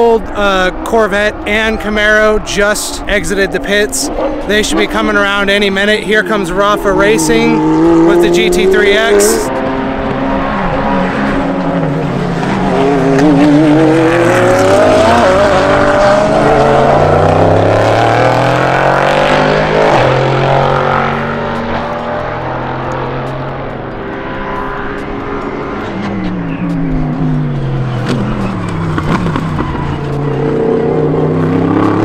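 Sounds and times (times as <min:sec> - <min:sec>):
lower race car engines: 0:00.0 - 0:32.0
race car engine accelerating: 0:00.4 - 0:32.0.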